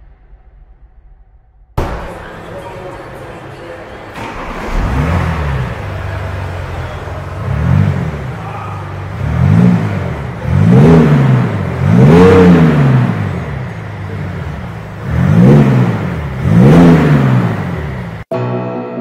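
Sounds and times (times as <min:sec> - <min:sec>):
car engine revving: 0:01.8 - 0:18.3.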